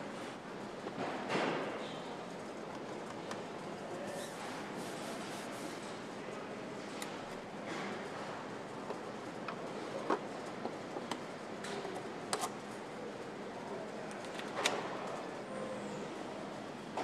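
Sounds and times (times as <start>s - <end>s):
assembly hall background noise: 0.0s - 17.0s.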